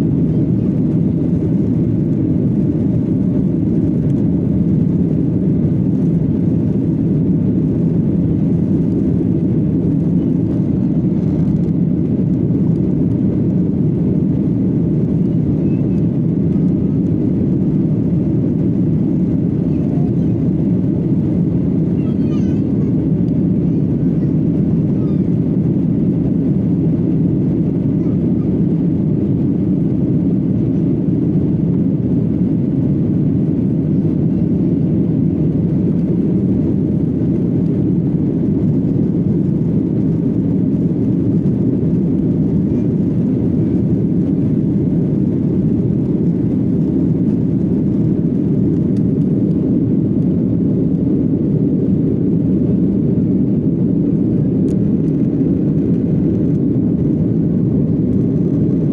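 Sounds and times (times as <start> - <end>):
jet airliner cabin rumble: 0.0 - 58.9.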